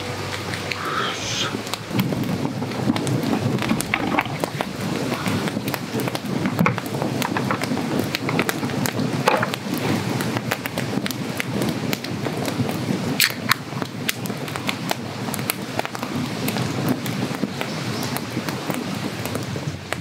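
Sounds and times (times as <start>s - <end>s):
campfire burning: 0.0s - 20.0s
logs crackling and popping: 0.0s - 20.0s.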